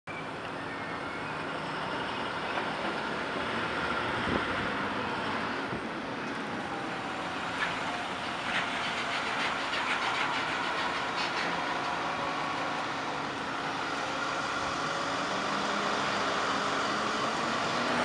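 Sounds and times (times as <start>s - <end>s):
diesel bus pulling in: 0.1s - 18.0s.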